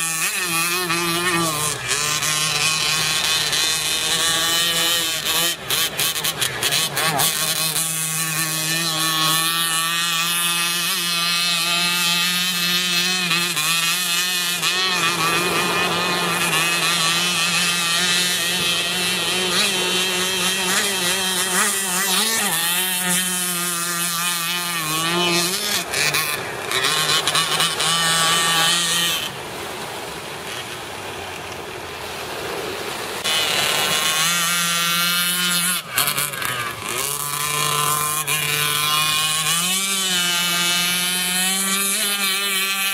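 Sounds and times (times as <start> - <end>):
rc boat engine at high revs: 0.0 - 42.9.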